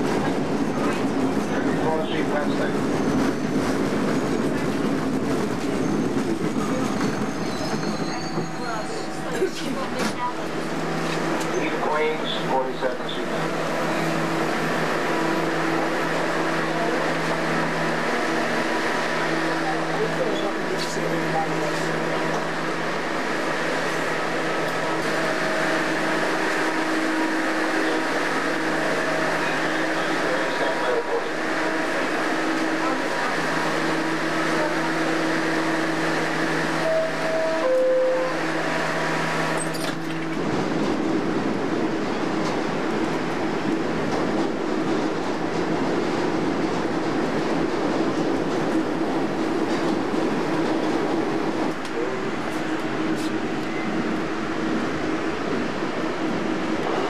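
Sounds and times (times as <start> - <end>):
subway train humming: 0.0 - 57.0.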